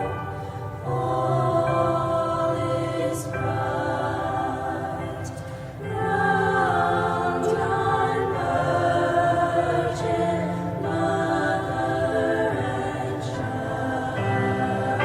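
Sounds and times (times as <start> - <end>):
school choir singing: 0.0 - 15.0.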